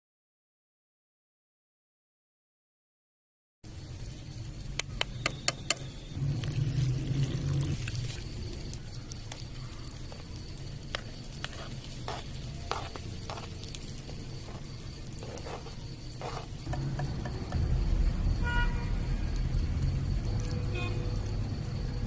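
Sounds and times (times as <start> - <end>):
eggs cooking in a frying pan: 3.7 - 22.0.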